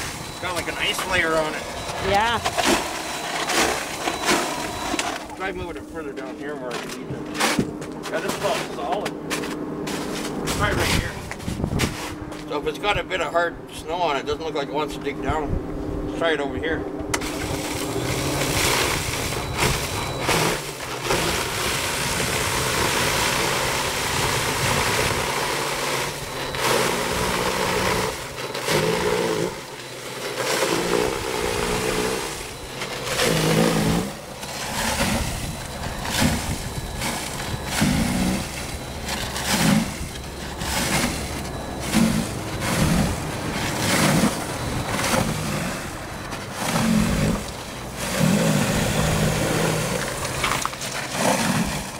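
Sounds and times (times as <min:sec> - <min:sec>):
electric snow shovel running: 0:00.0 - 0:11.4, 0:17.1 - 0:51.9.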